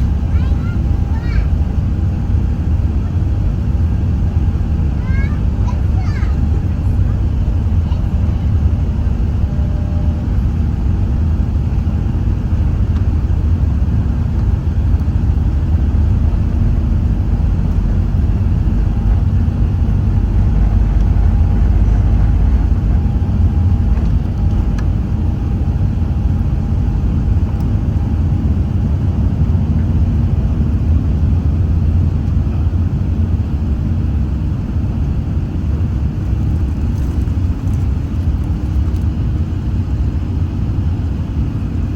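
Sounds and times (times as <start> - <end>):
aircraft cabin rumble: 0.0 - 41.9.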